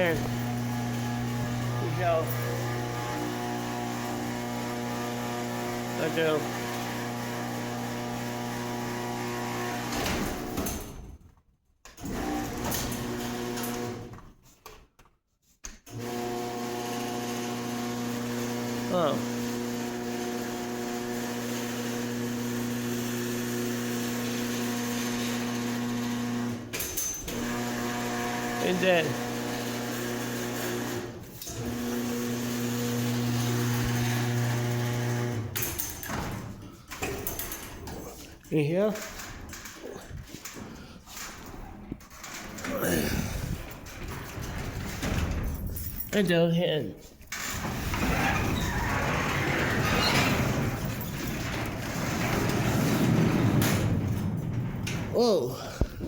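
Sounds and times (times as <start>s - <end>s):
garage door opener motor humming: 0.0s - 11.0s, 12.0s - 14.2s, 15.9s - 38.0s, 38.9s - 45.8s, 47.3s - 56.0s.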